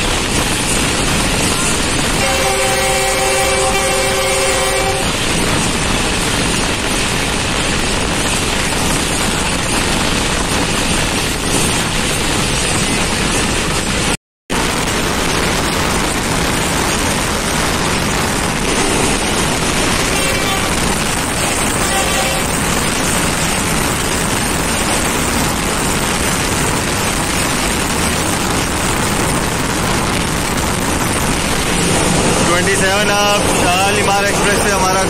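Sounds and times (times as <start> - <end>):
oncoming train passing: 0.0 - 35.0
train wheels on rails: 0.0 - 35.0
wind rushing: 4.8 - 35.0.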